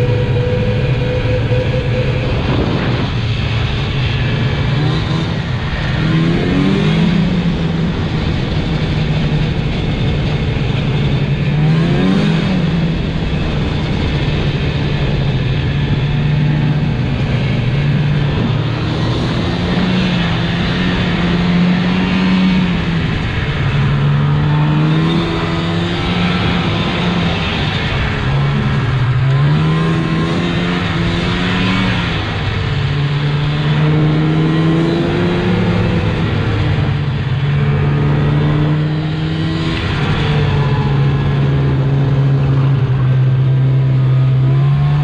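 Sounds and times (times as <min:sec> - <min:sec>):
road rumble: 0:00.0 - 0:45.0
truck engine running: 0:00.0 - 0:45.0.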